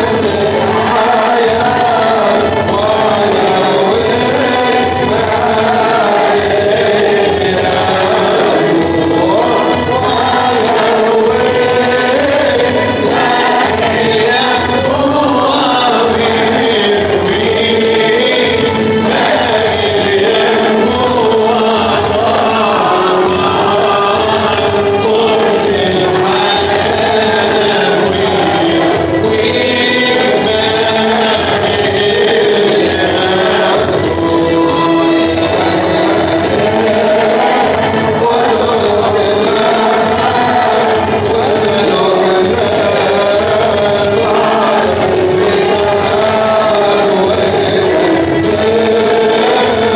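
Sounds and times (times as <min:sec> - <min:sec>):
accompanying music: 0:00.0 - 0:49.9
men singing a hymn in chorus: 0:00.0 - 0:49.9.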